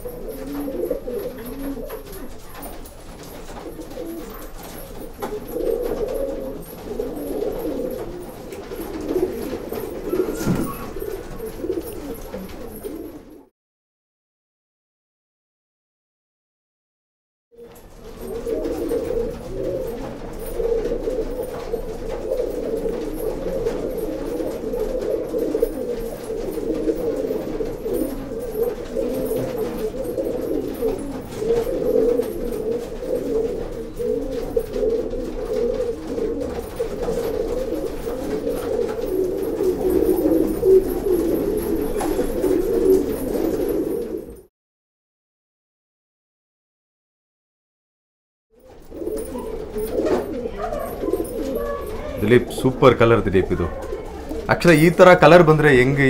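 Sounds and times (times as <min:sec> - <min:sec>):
pigeons cooing: 0:00.0 - 0:13.5, 0:17.6 - 0:44.5, 0:48.6 - 0:56.0.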